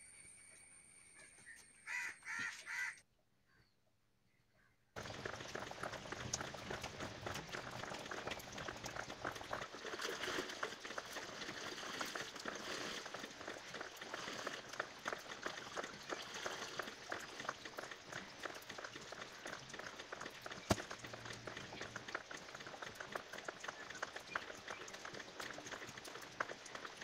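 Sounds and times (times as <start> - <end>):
water splashing and trickling: 5.0 - 27.0.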